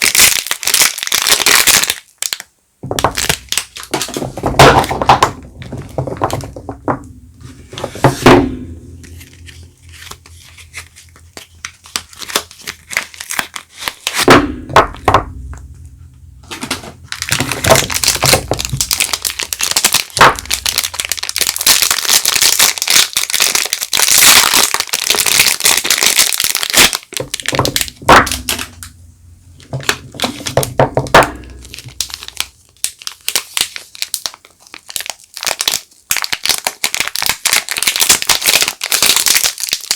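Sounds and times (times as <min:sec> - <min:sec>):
packaging crinkling and tearing: 0:00.0 - 0:06.6, 0:09.0 - 0:15.1, 0:16.5 - 0:29.0, 0:29.6 - 0:39.9.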